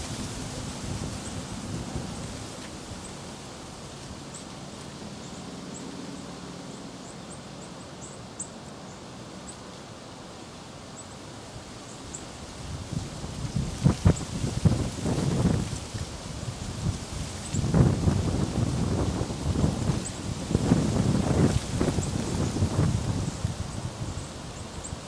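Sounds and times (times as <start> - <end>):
hiss of air and rustling: 0.0 - 25.0.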